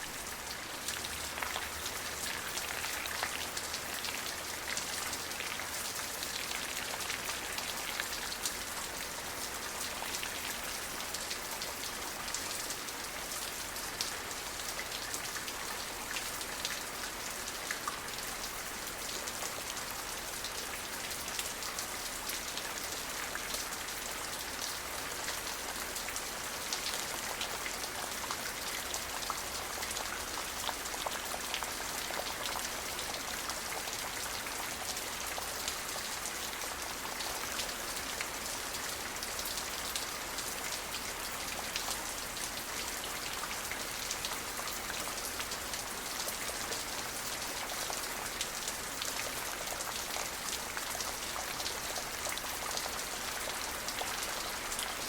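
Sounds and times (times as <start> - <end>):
steady rain hiss: 0.0 - 55.0
raindrops ticking on a surface: 0.2 - 55.0.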